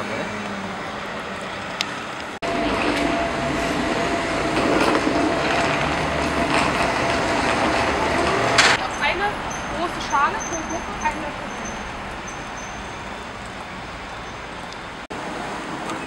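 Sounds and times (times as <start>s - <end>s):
city traffic: 0.0s - 16.0s
passers-by: 0.0s - 16.0s.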